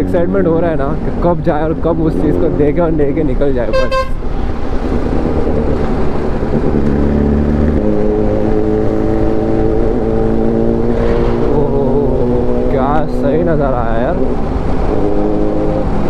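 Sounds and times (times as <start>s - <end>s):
heavy traffic: 0.0s - 16.0s.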